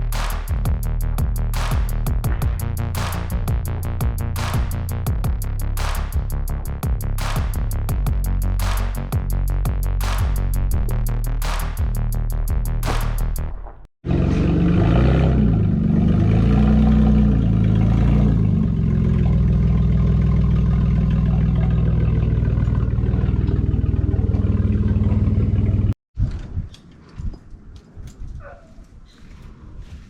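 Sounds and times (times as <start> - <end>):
engine revving: 0.0 - 13.4, 14.0 - 26.0.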